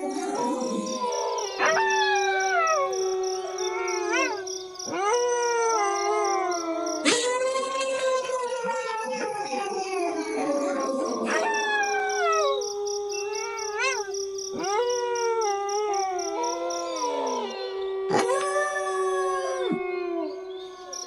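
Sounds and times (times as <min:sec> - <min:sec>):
insects chirping: 0:00.0 - 0:21.0
wolves howling in chorus: 0:00.0 - 0:21.0.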